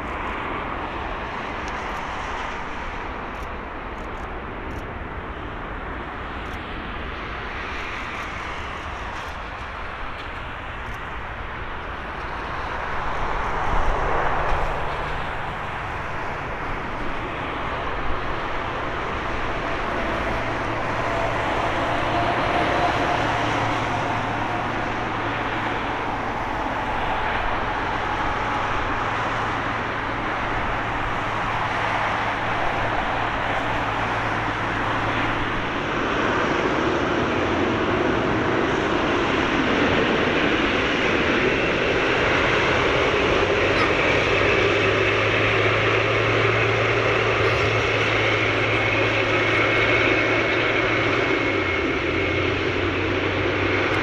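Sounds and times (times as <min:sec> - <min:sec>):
jet engines rumbling: 0:00.0 - 0:54.0
steady engine whine: 0:00.0 - 0:54.0.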